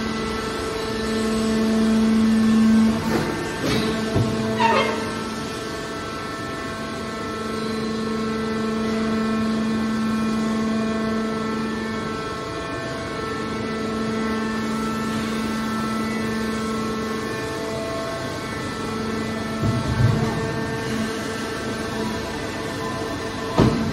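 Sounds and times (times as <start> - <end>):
hydraulic pump motor humming: 0.0 - 23.9.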